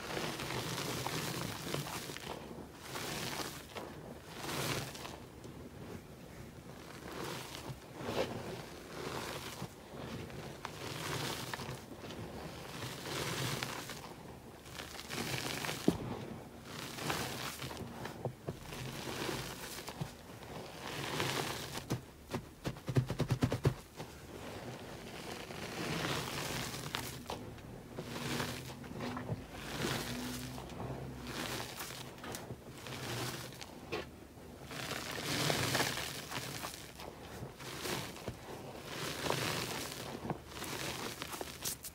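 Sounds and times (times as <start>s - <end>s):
chalk being squeezed and stirred: 0.0s - 6.0s, 6.7s - 41.9s
chalk crackling: 7.0s - 41.9s.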